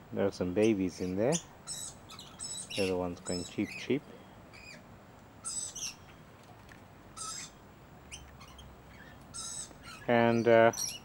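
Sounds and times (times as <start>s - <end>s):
young birds cheeping: 0.4s - 6.4s, 7.1s - 11.0s.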